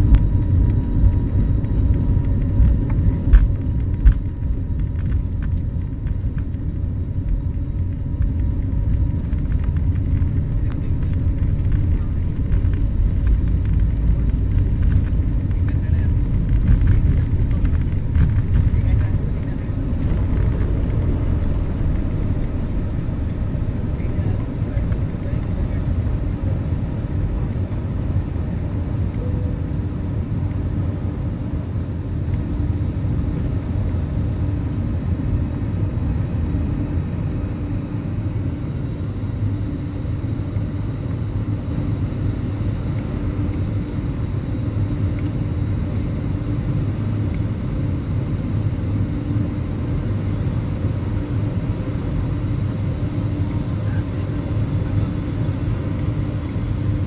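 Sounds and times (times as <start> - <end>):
jet engine and airflow noise: 0.0 - 57.0.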